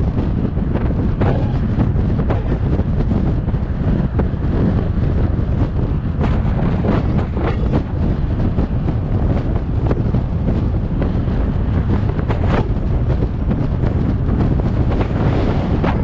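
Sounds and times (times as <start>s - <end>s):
car driving rumble: 0.0s - 16.0s
wind buffeting microphone: 0.0s - 16.0s.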